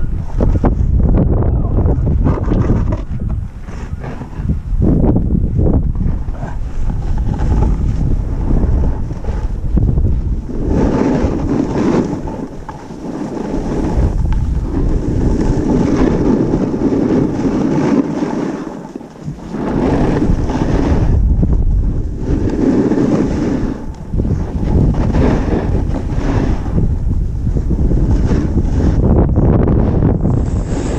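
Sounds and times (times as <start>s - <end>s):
snowboard sliding over snow: 0.0s - 30.9s
wind rushing over microphone: 0.0s - 30.9s.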